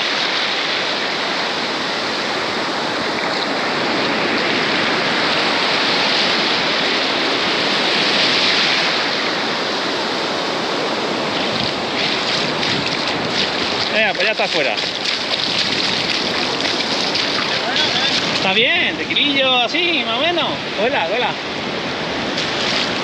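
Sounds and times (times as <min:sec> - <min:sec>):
sea surf breaking: 0:00.0 - 0:23.0.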